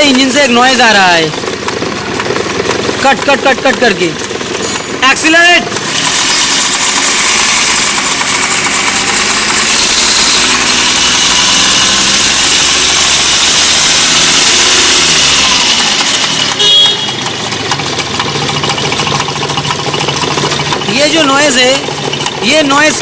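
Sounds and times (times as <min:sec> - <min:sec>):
engine revving with rattle: 0:00.0 - 0:23.0.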